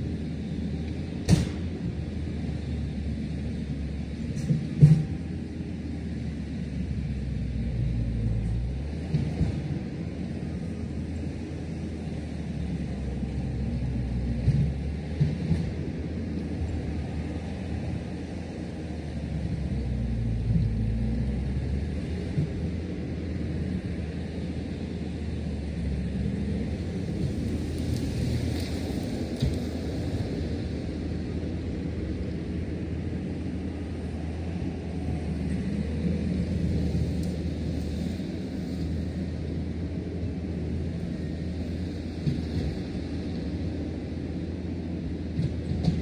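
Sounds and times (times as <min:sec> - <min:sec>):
heavy machinery engine rumbling: 0:00.0 - 0:46.0.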